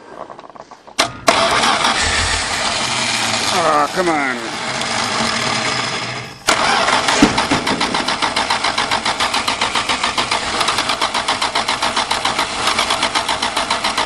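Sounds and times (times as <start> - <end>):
engine cranking on starter: 1.0 - 14.0.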